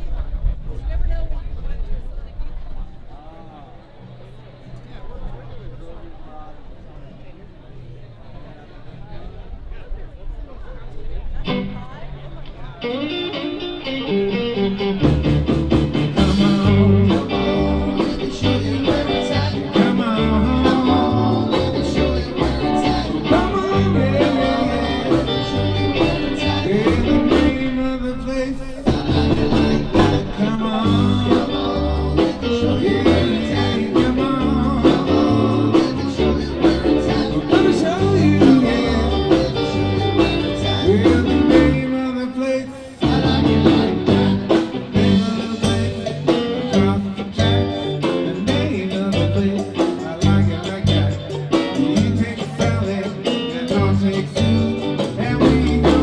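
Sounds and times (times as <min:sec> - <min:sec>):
drums: 0:00.0 - 0:03.7, 0:09.4 - 0:56.0
keyboard: 0:01.9 - 0:56.0
electric guitar: 0:09.6 - 0:56.0.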